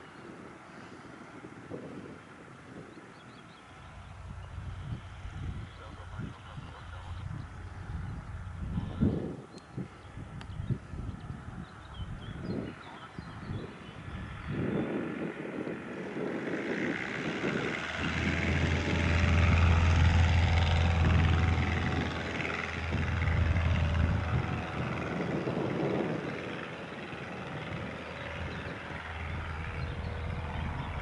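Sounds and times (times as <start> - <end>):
light plane engine and propeller: 0.0 - 31.0.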